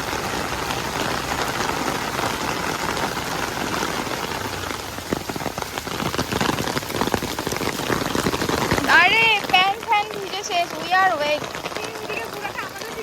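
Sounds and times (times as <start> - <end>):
close raindrop hits: 0.0 - 13.0
heavy rain falling: 0.0 - 13.0.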